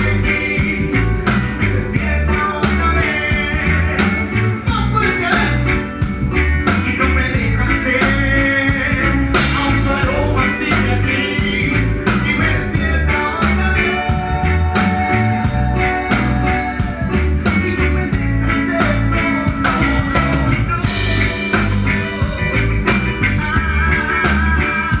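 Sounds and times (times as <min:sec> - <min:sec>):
live reggae band playing: 0:00.0 - 0:25.0.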